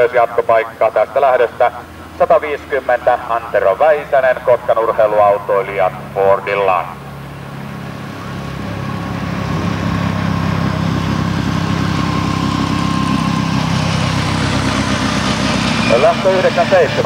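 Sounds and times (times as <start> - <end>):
race car engine running: 1.4 - 17.0.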